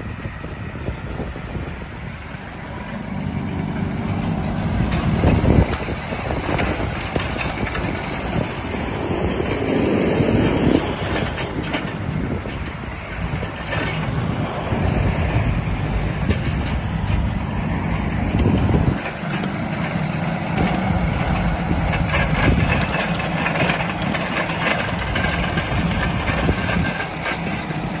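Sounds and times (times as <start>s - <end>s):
small diesel engine running: 0.0s - 28.0s.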